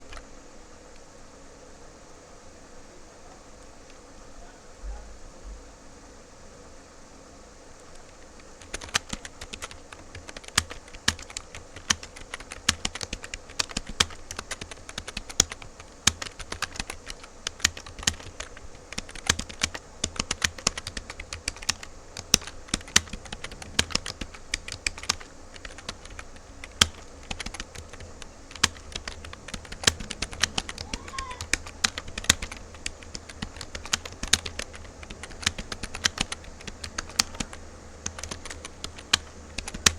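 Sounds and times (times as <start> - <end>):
fast typing on keyboard: 0.0 - 0.2, 7.9 - 39.9.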